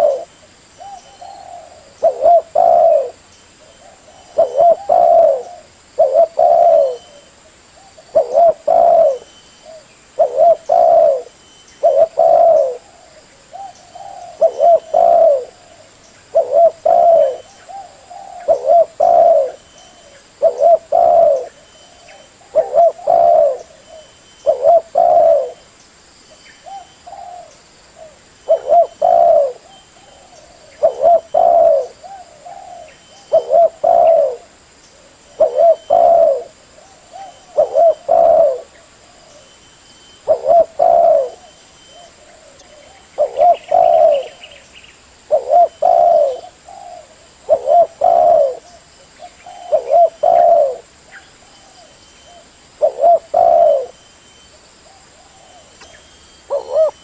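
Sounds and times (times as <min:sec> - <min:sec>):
dove cooing: 0:00.0 - 0:25.7, 0:26.6 - 0:39.6, 0:40.2 - 0:44.6, 0:45.2 - 0:54.0, 0:54.8 - 0:57.0.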